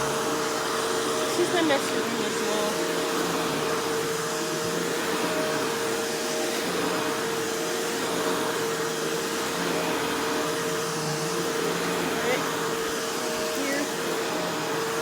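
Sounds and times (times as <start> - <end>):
upright vacuum running: 0.0 - 15.0.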